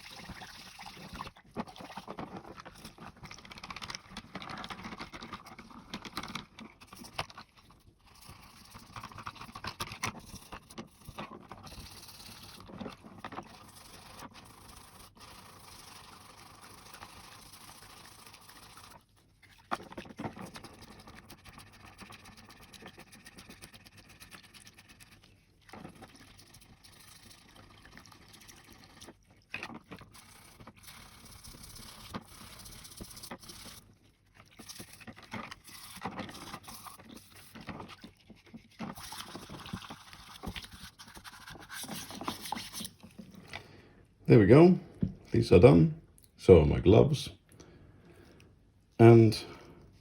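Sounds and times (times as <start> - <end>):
toothbrush scrubbing in water: 0.0 - 43.8.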